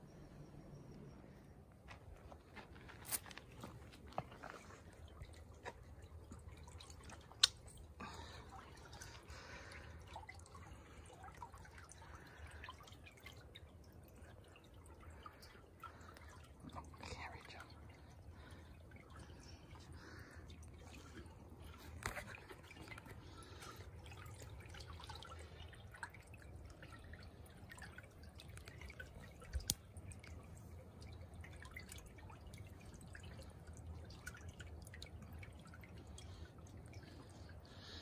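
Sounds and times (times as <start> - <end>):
water dripping and trickling: 0.2 - 38.0.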